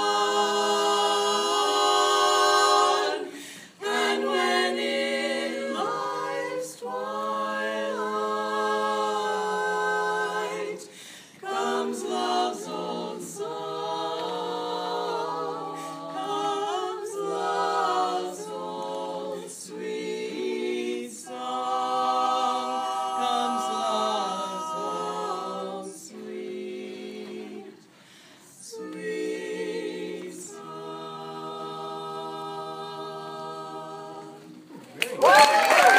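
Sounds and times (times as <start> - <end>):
women singing a cappella: 0.0 - 34.8.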